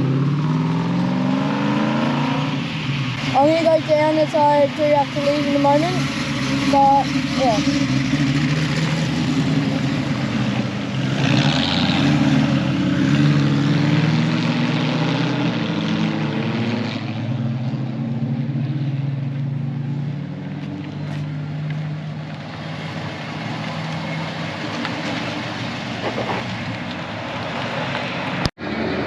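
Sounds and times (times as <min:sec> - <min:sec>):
car driving past: 0:00.0 - 0:29.0.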